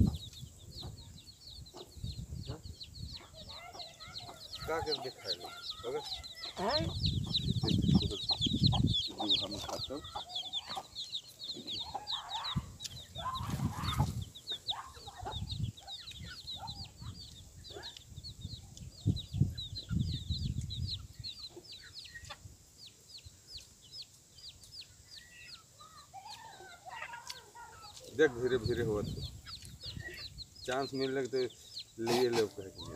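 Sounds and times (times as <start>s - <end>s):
chicks peeping: 0.0s - 32.9s.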